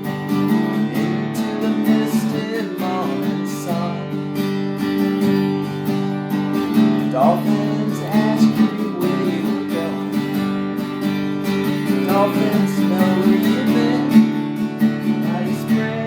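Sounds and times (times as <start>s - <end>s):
acoustic guitar strumming blues: 0.0s - 16.0s.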